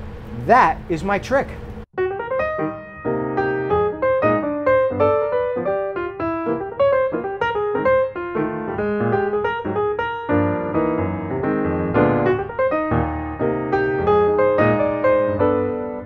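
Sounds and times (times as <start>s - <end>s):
piano music: 1.9s - 16.0s.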